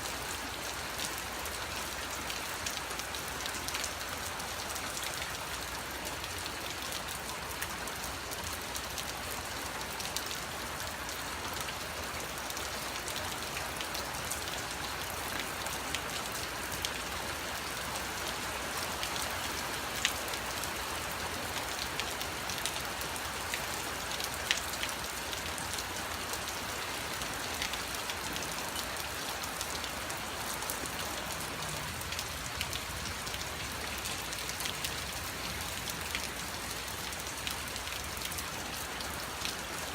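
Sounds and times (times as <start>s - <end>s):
raindrops ticking close by: 0.0s - 39.9s.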